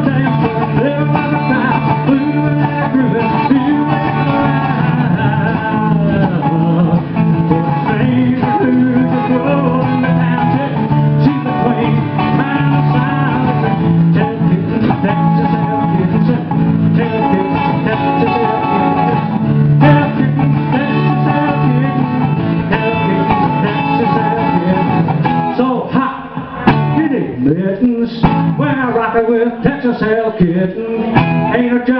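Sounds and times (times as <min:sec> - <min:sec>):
strummed acoustic guitar: 0:00.0 - 0:31.9.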